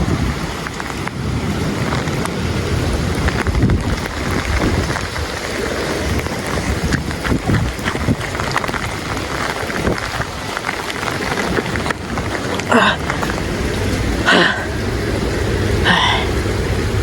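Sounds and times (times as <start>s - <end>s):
raindrops ticking on phone: 0.0s - 14.6s
rain: 0.0s - 17.0s
storm wind buffeting microphone: 0.0s - 17.0s.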